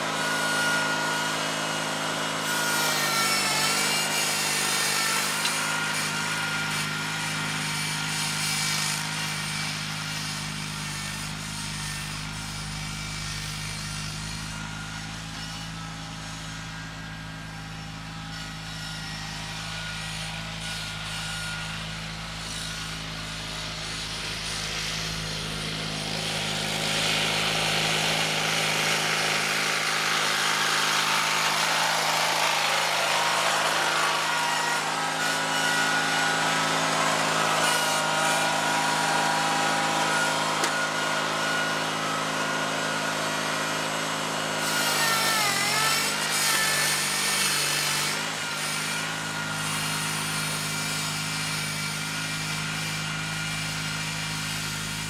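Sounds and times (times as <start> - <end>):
garden tractor engine under load: 0.0 - 18.7, 19.5 - 55.0.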